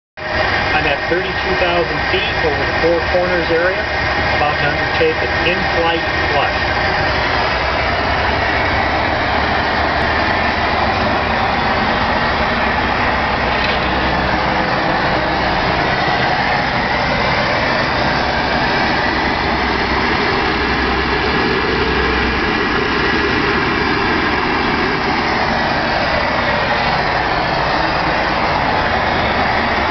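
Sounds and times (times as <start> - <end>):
aircraft roar: 0.2 - 29.9.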